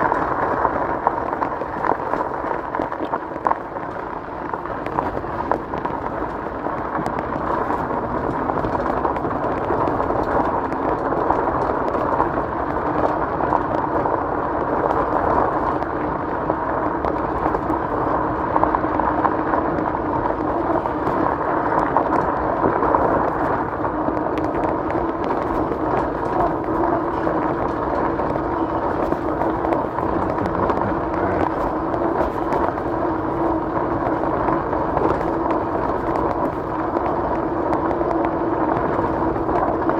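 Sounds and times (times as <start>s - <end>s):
tyres rolling on gravel: 0.0s - 39.9s.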